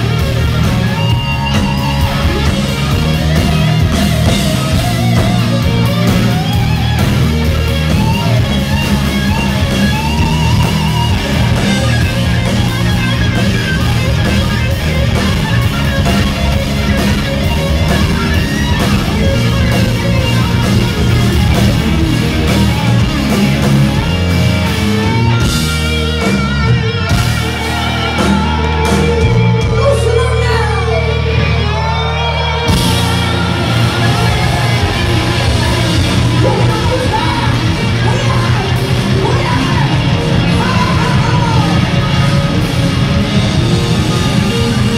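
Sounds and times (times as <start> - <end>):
rock band playing live: 0.0 - 44.9.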